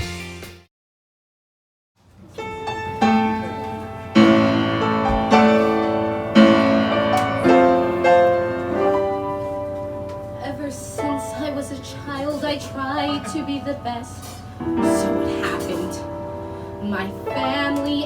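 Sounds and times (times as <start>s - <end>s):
piano chords: 2.4s - 18.0s.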